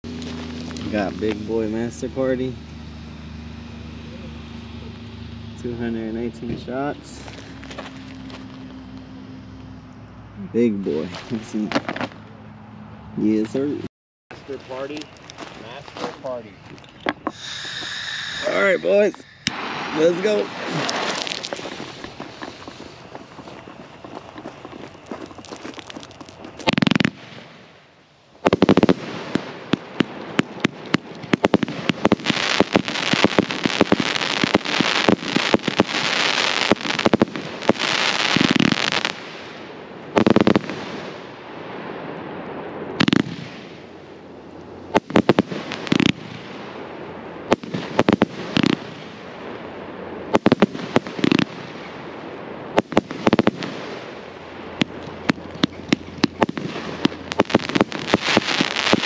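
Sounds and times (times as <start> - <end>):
firework volley with crackling: 0.0 - 12.5, 13.2 - 59.0
firework bangs: 0.1 - 9.8, 10.4 - 12.2, 14.4 - 59.0.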